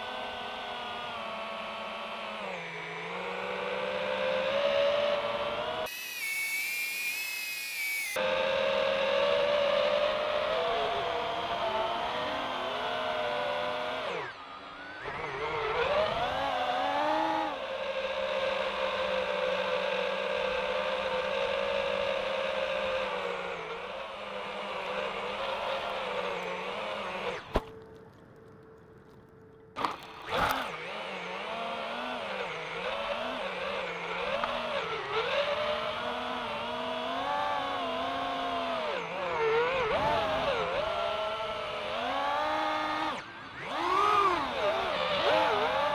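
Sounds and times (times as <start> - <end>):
drone propellers buzzing whine: 0.0 - 45.9.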